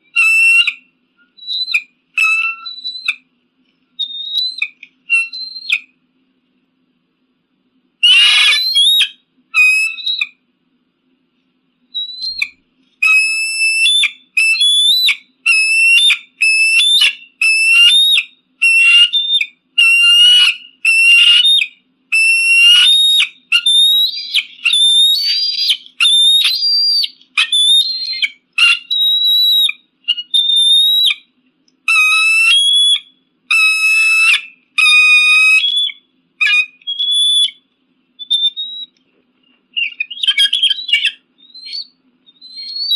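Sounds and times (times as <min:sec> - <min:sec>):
eagle whistled calls: 0:00.0 - 0:03.3, 0:04.0 - 0:05.9, 0:08.0 - 0:10.4, 0:11.9 - 0:39.0, 0:39.7 - 0:42.9.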